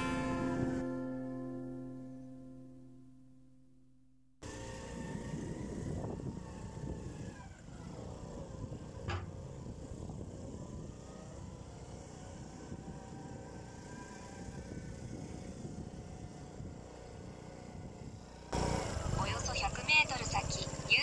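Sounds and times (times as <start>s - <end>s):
road and wind rumble: 0.0s - 2.8s, 4.4s - 21.0s.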